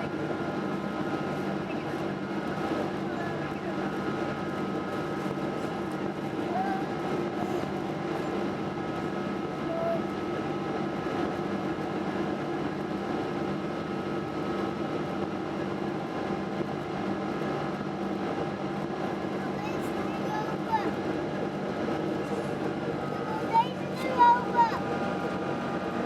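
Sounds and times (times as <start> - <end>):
airliner engine noise: 0.0 - 26.0.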